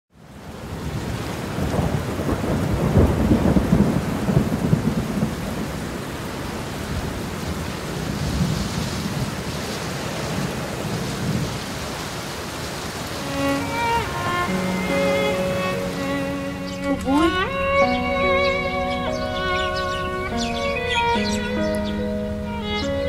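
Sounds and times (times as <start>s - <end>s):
rain falling steadily: 0.1s - 23.0s
thunder rumbling: 0.8s - 9.7s, 13.1s - 23.0s.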